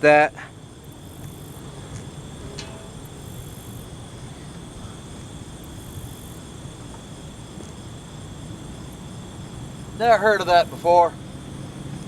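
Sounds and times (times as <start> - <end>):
crickets and insects calling: 0.0 - 12.0
low steady rumble: 0.0 - 12.0.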